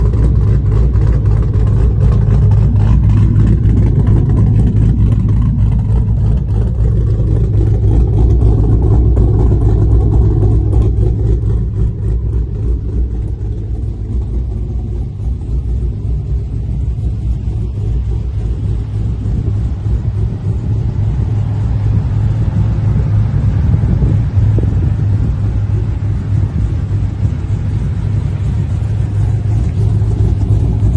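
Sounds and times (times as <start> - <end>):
engine idling deep note: 0.0 - 30.9.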